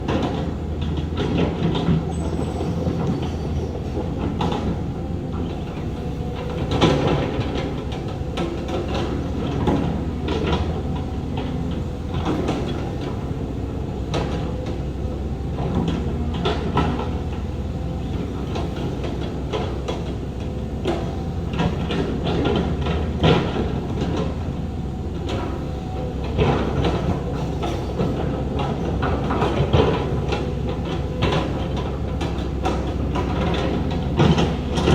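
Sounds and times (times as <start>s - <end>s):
diesel machinery running: 0.0s - 34.9s
metallic clanks and knocks: 5.7s - 34.9s.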